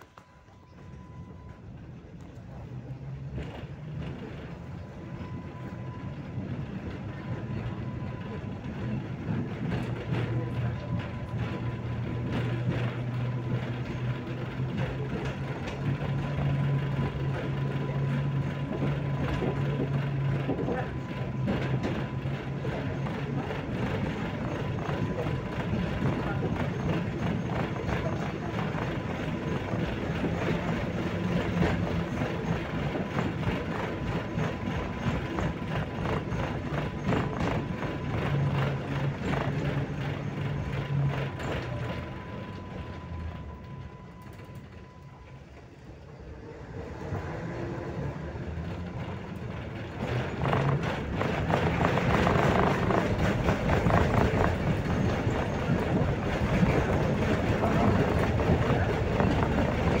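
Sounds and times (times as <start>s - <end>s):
thin steady whine: 0.0s - 60.0s
tram running on rails: 0.0s - 60.0s.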